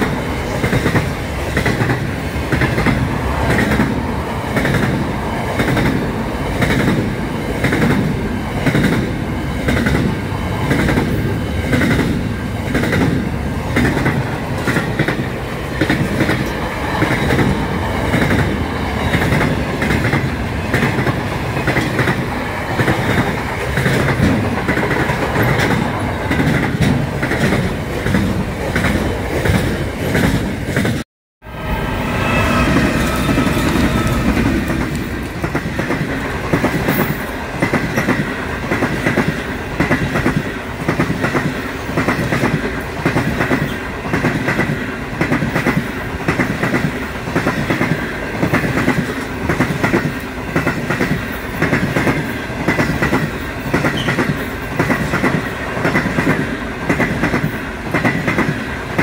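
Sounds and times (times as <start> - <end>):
train wheels clattering over rails: 0.0 - 31.0, 32.6 - 59.0.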